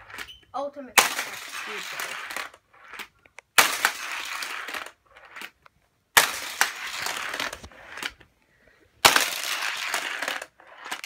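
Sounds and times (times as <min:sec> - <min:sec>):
toy cars rolling on plastic track: 0:00.0 - 0:00.3, 0:01.0 - 0:08.3, 0:09.0 - 0:11.0.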